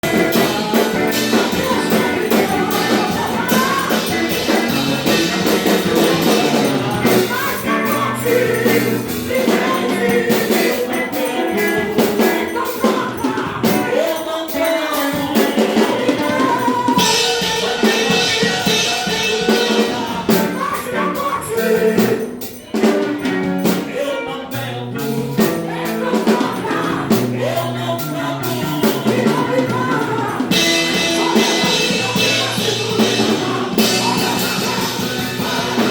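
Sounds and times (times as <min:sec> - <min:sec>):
song with singing over drums: 0:00.0 - 0:35.9.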